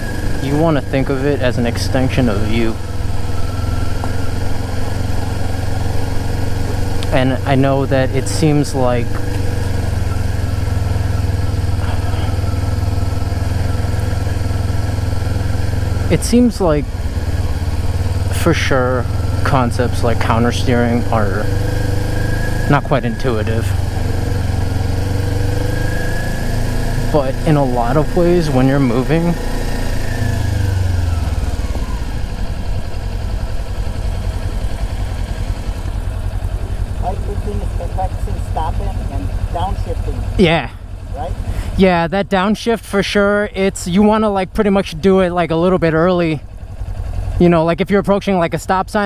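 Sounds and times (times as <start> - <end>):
motorcycle engine idling: 0.0 - 49.0.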